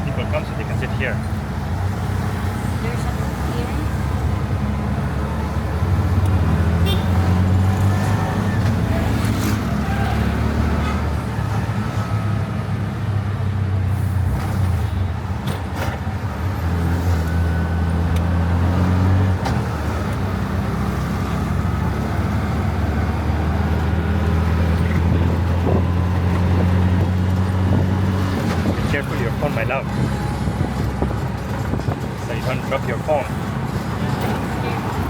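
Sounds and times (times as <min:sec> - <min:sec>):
road and traffic noise: 0:00.0 - 0:35.0.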